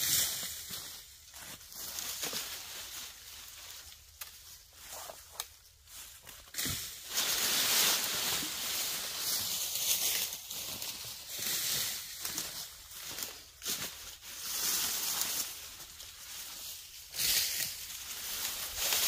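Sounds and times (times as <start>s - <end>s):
dry leaves rustling and crackling: 0.0s - 19.0s.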